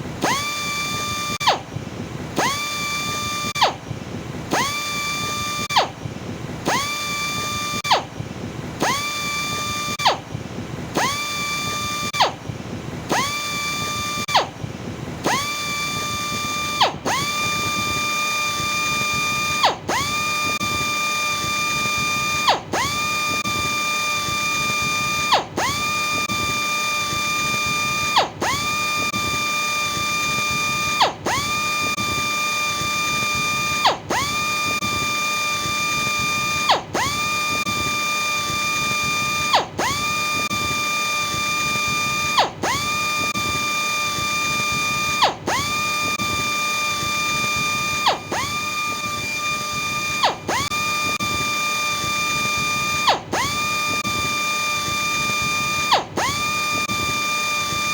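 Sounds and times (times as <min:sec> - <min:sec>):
electric sander motor whining: 0:00.2 - 0:01.6, 0:02.4 - 0:03.8, 0:04.5 - 0:05.9, 0:06.7 - 0:08.1, 0:08.8 - 0:10.2, 0:10.9 - 0:12.4, 0:13.1 - 0:14.6, 0:15.2 - 0:57.9.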